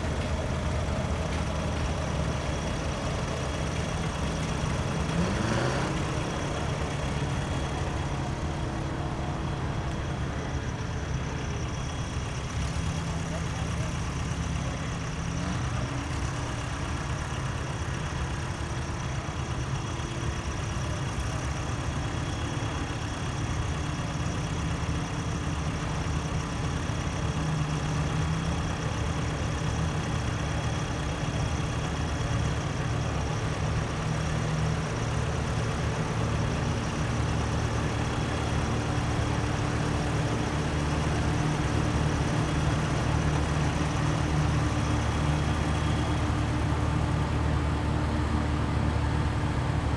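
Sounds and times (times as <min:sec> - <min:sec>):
tractor engines running: 0:00.0 - 0:49.9.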